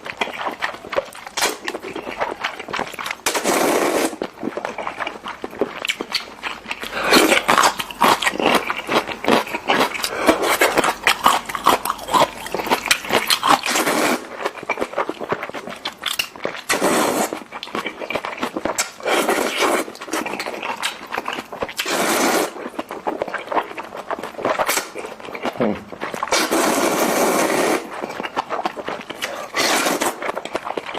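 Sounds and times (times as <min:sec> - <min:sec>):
chewing noodles: 0:00.0 - 0:30.9
noisy slurps: 0:00.0 - 0:30.9.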